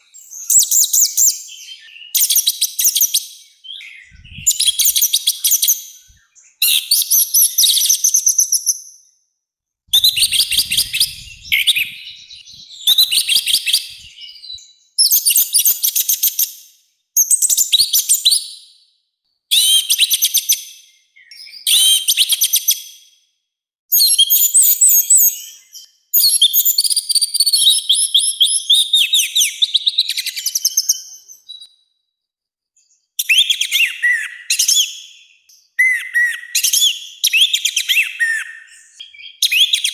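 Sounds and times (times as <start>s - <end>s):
bird singing harsh high song: 0.0s - 9.2s, 9.9s - 18.8s, 19.5s - 23.1s, 23.9s - 31.8s, 32.8s - 39.9s.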